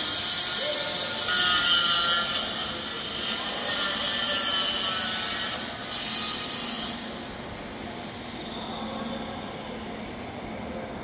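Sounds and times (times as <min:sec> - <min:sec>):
train wheels hissing and squealing: 0:00.0 - 0:10.7.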